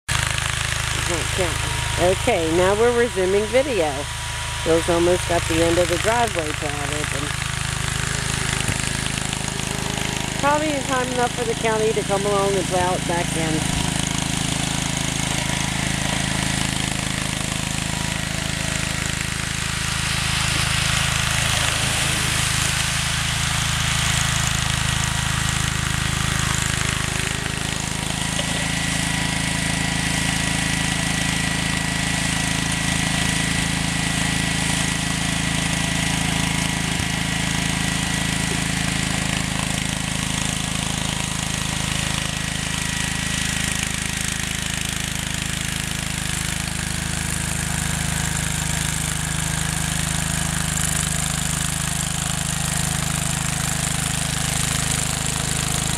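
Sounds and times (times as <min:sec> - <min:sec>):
plow blade pushing wet snow: 0:00.1 - 0:55.9
tractor engine running: 0:00.1 - 0:55.9.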